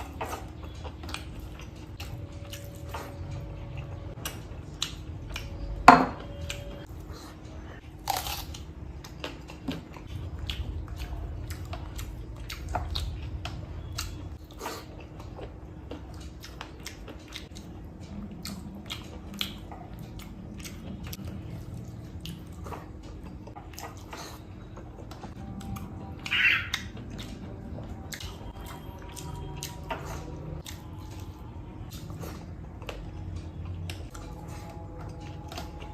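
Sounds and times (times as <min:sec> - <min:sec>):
person chewing food: 0:00.0 - 0:35.9.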